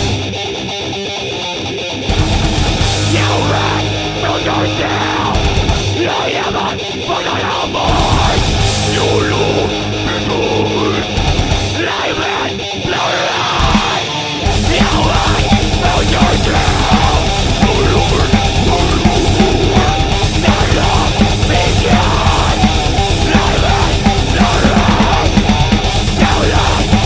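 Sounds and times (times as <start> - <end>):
heavy metal band playing: 0.0 - 27.0.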